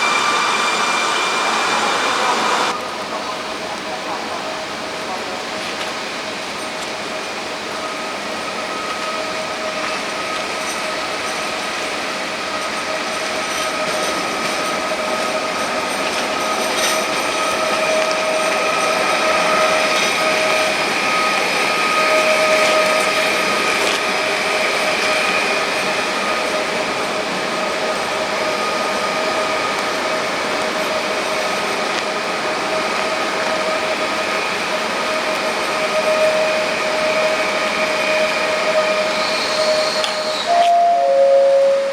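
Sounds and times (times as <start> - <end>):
high electrical whine of train: 0.0 - 41.9.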